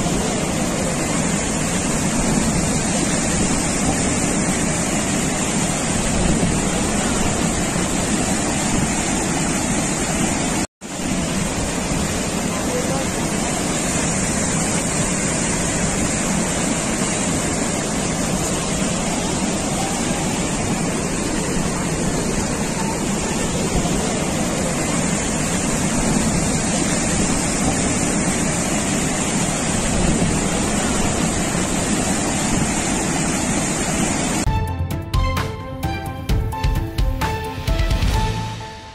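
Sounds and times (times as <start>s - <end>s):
floodwater rushing over a weir: 0.0s - 34.5s.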